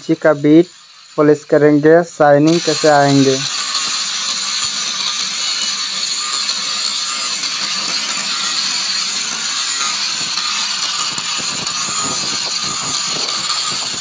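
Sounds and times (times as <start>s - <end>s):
angle grinder polishing stone: 0.0s - 14.0s.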